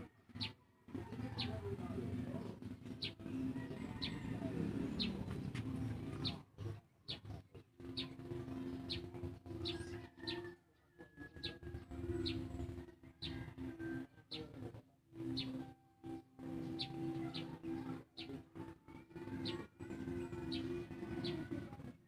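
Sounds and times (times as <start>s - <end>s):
bird chirping: 0.3s - 21.8s.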